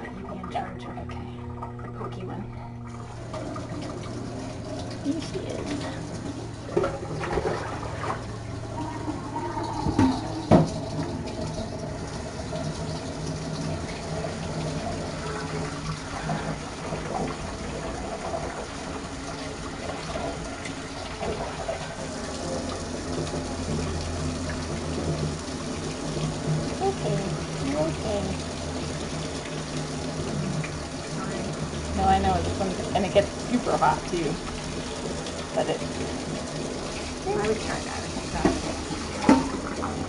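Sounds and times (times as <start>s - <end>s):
water running from a faucet: 0.0s - 40.0s.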